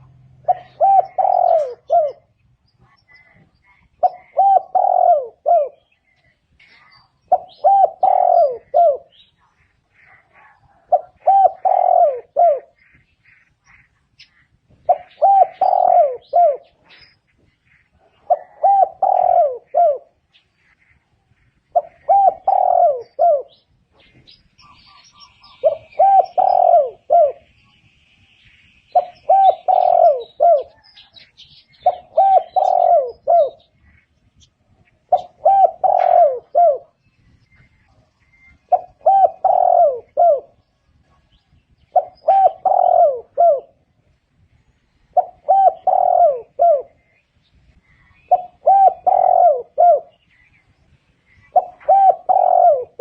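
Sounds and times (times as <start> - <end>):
dove cooing: 0.0 - 27.6, 28.9 - 53.0.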